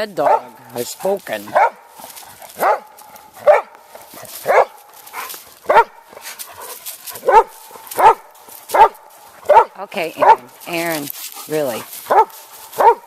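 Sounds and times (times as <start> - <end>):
dog barking: 0.2 - 0.8, 1.4 - 10.6, 11.5 - 13.0.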